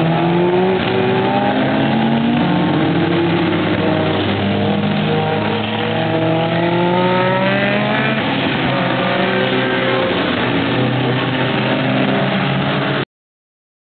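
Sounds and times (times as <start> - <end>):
engine accelerating: 0.0 - 13.0
race car engines running hard: 0.0 - 13.0.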